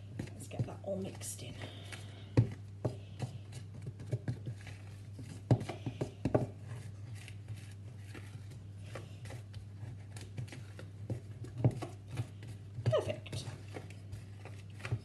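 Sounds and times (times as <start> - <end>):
wooden spoon scraping mixing bowl: 0.0 - 15.0.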